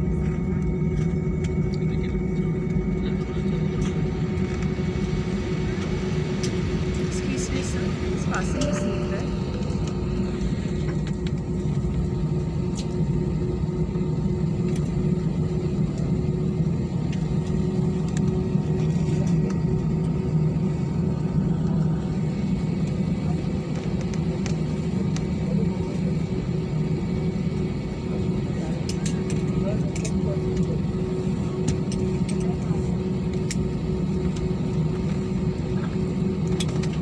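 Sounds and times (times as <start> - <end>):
constant cabin hum: 0.0 - 37.0
jet engines rumbling: 0.0 - 37.0.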